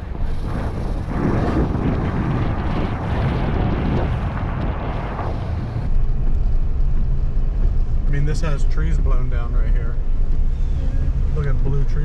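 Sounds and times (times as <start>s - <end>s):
car road and engine rumble: 0.0s - 12.0s
wind buffeting microphone: 0.0s - 12.0s.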